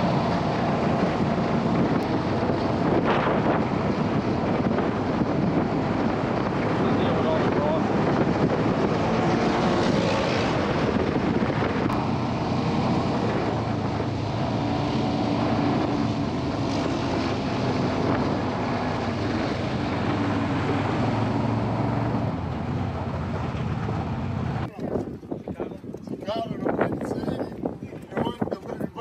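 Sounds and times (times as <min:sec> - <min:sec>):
wind noise: 0:00.0 - 0:29.0.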